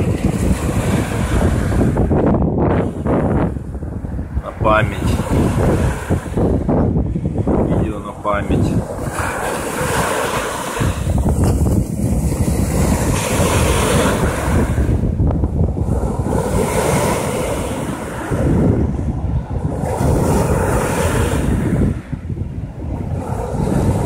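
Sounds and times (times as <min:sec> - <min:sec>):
small waves breaking on beach: 0:00.0 - 0:02.2, 0:04.2 - 0:24.0
wind rumbling on microphone: 0:00.0 - 0:24.0.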